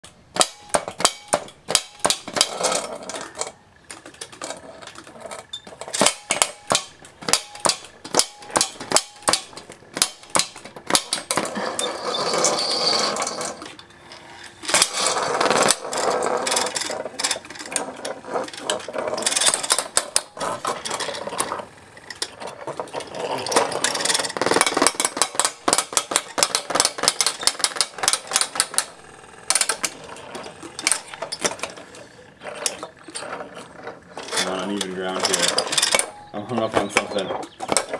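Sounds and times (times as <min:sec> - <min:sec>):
clacks of metal and plastic: 0:00.0 - 0:37.9.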